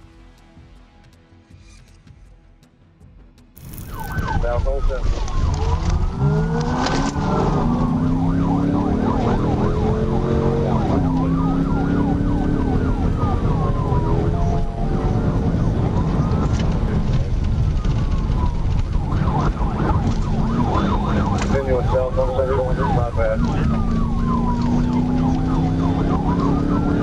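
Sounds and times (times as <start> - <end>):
road rumble: 3.6 - 27.0
police siren wailing and yelping: 3.7 - 27.0
car engine accelerating hard: 5.2 - 27.0.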